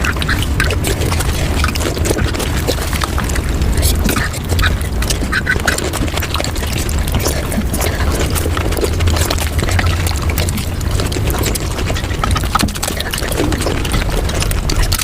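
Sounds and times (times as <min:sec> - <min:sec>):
sped-up chewing and smacking: 0:00.0 - 0:15.0
steady low rumble: 0:00.0 - 0:15.0.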